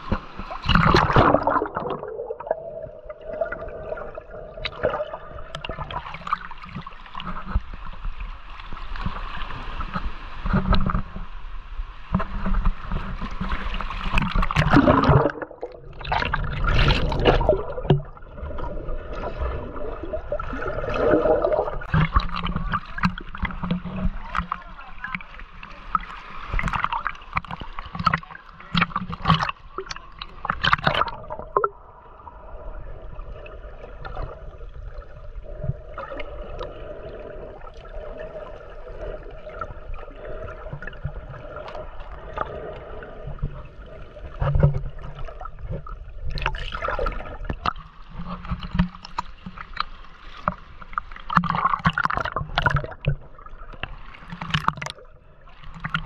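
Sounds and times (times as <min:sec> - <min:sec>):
water splashing around kayak: 0:00.0 - 0:56.0.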